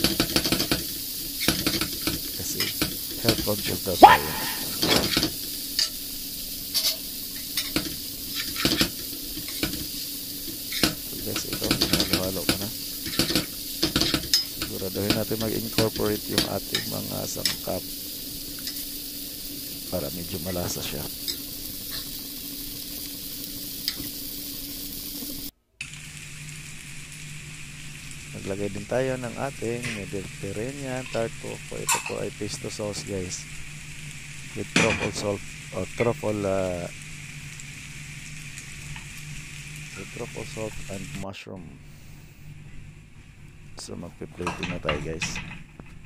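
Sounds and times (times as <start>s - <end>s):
food sizzling in a frying pan: 0.0s - 41.3s, 41.9s - 43.8s.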